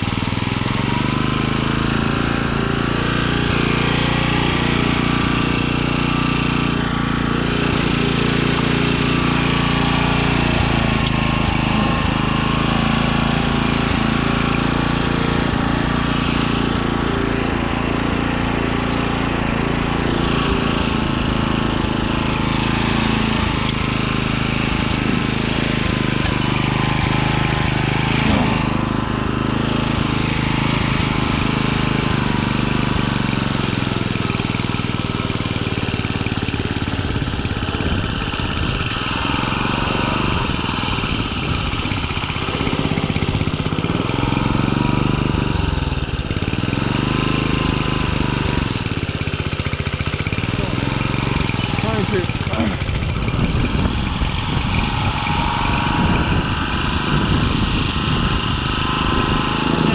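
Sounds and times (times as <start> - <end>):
tiller engine running: 0.0 - 59.9
tines churning soil: 0.0 - 59.9.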